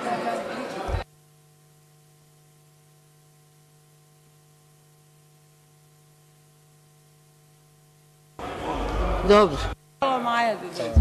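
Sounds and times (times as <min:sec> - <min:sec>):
faint steady hum: 0:00.9 - 0:11.0.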